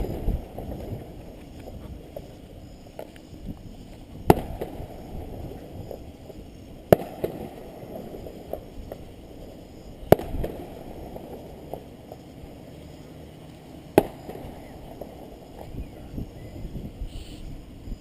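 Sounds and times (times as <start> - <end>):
fireworks bangs: 0.0 - 12.6, 13.9 - 15.9
fireworks crackles: 0.0 - 17.0.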